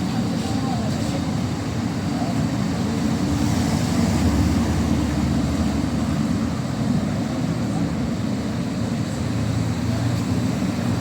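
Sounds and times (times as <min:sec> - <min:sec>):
city street low rumble: 0:00.0 - 0:11.0.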